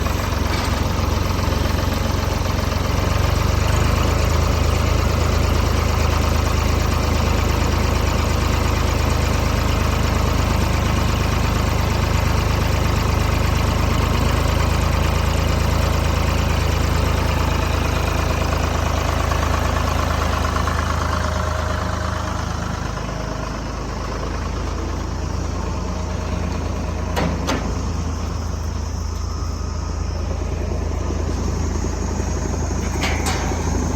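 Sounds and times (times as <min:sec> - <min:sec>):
wood chipper running: 0:00.0 - 0:33.9.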